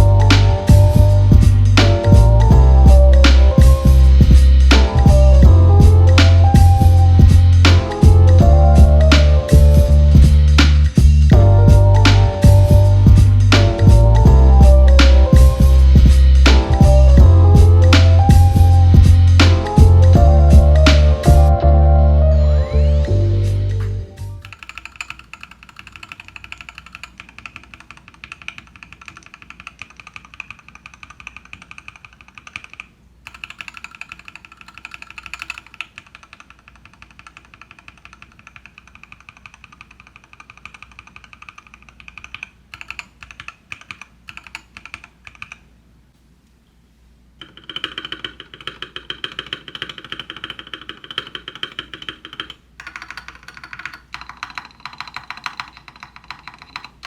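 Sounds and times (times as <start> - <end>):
keyboard typing: 0.0 - 21.6, 24.4 - 45.7, 47.4 - 57.0.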